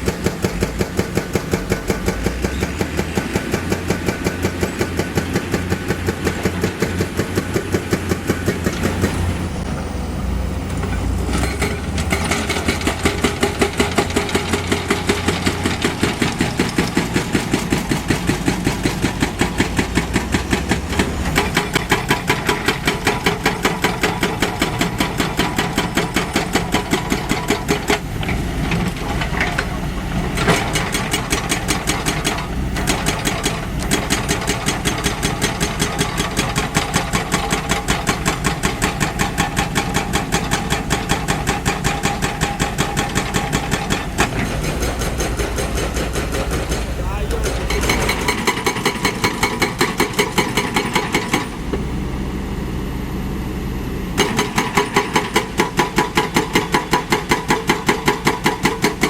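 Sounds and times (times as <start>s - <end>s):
diesel engine pulsing: 0.0s - 59.0s.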